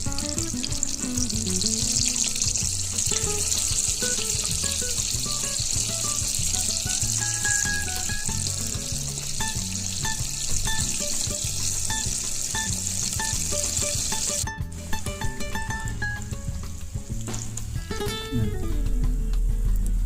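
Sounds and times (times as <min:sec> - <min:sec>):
prawns sizzling in hot oil: 0:00.0 - 0:14.5, 0:16.0 - 0:17.8
background music: 0:00.0 - 0:20.0.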